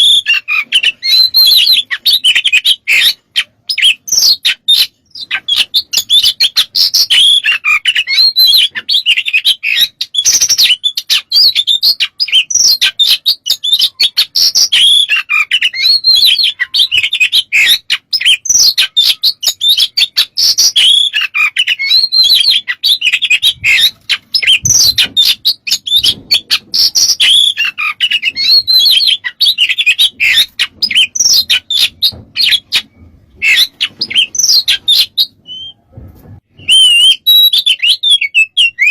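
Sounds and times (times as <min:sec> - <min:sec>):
songbird chirps whistles and trills: 0:00.0 - 0:38.9.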